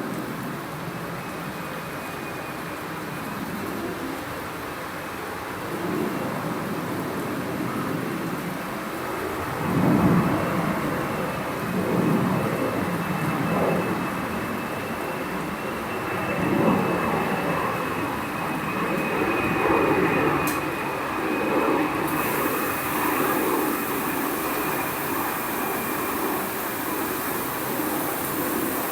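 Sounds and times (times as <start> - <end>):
steady rain: 0.0 - 15.4, 18.0 - 28.9.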